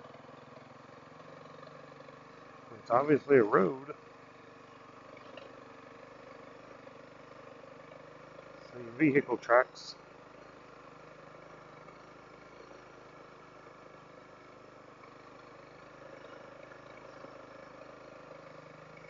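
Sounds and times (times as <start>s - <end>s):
faint motorcycle engine running: 0.0s - 19.0s.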